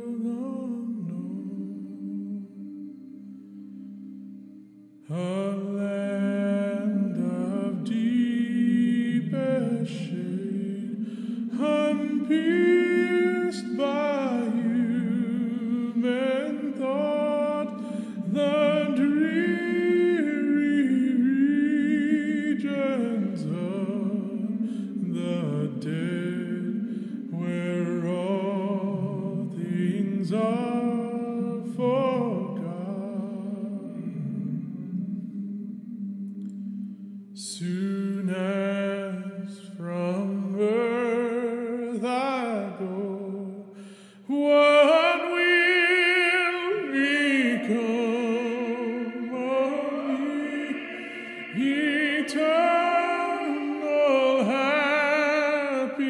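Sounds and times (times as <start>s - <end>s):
voices singing a cappella: 0.0s - 56.0s.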